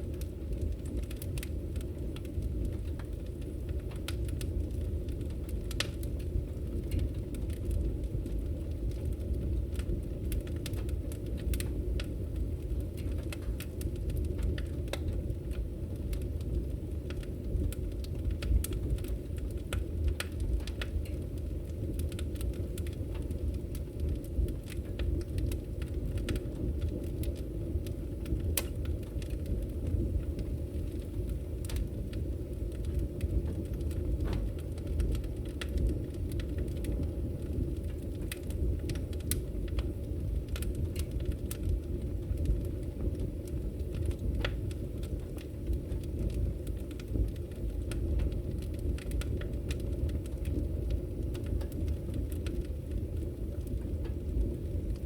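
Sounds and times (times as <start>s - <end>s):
firewood crackling and popping: 0.0s - 55.0s
low rumble of flames: 0.0s - 55.0s.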